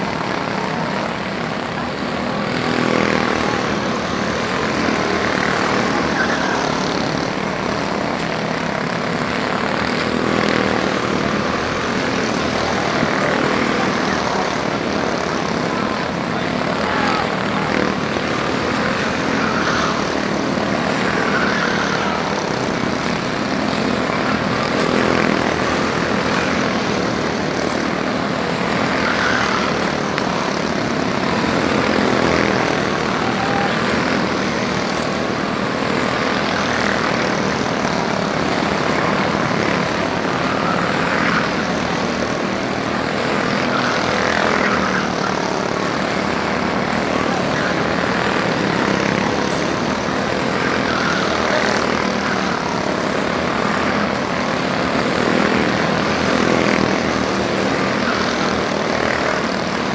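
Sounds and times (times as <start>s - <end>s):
small race car engines buzzing: 0.0s - 59.9s.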